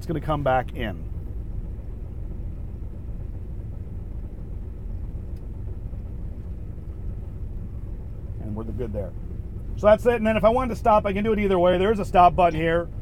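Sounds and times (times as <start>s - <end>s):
combine harvester rumbling: 0.0s - 13.0s.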